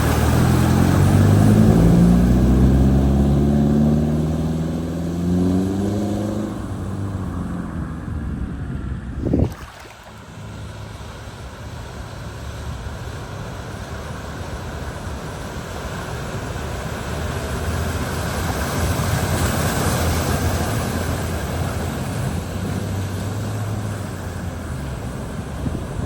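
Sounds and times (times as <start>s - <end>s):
water rushing: 0.0s - 8.1s, 9.2s - 26.0s
low engine hum: 0.0s - 26.0s.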